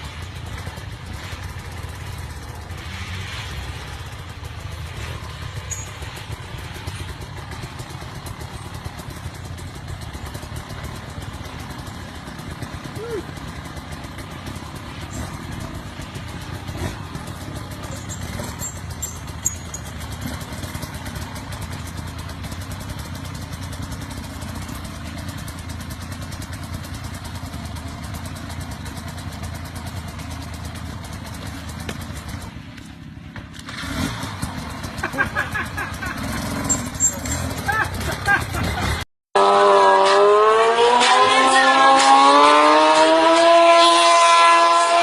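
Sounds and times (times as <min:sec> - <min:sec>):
motorcycle engine running: 0:00.0 - 0:45.0
road noise: 0:00.0 - 0:45.0.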